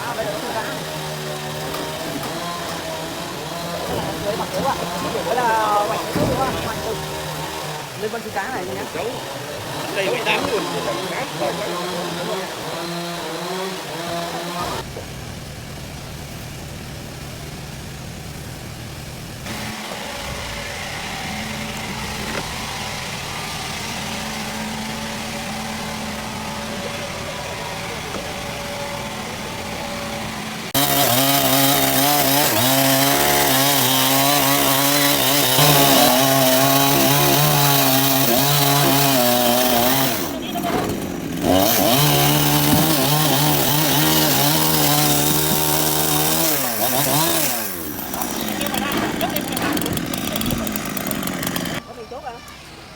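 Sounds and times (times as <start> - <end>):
chainsaw engine revving: 0.0 - 16.2, 19.4 - 52.6
machine humming: 0.0 - 51.8.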